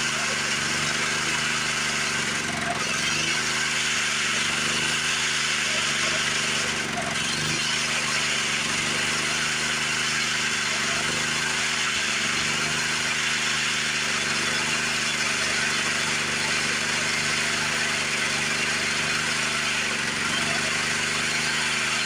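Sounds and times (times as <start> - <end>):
small engine droning: 0.0 - 22.0.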